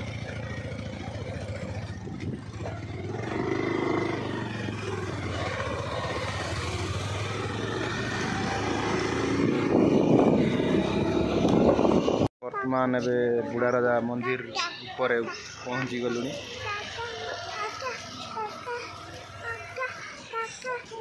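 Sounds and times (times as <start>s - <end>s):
motorcycle passing by: 0.0s - 12.3s, 15.3s - 21.0s.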